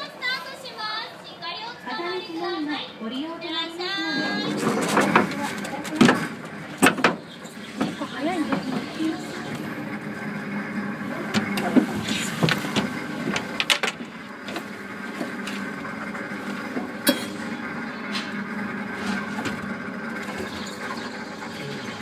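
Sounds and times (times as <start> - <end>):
ride car mechanical hum: 0.0 - 22.0
wheels clicking and clunking on track: 0.0 - 22.0.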